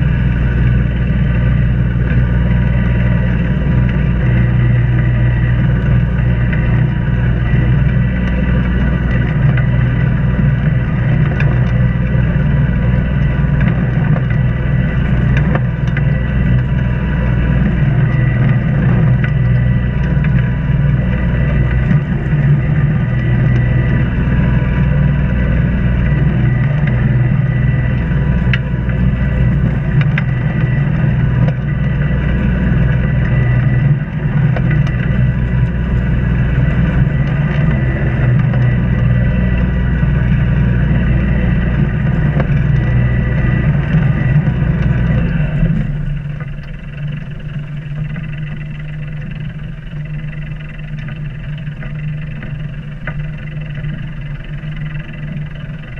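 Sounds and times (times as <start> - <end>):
boat engine droning: 0.0 - 55.9.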